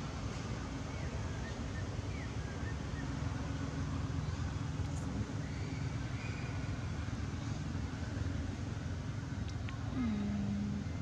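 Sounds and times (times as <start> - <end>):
low outdoor rumble and hiss: 0.0 - 11.0.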